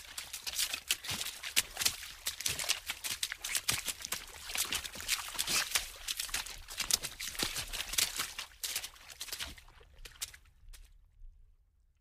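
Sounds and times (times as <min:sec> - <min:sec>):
water splashing fast: 0:00.0 - 0:10.5.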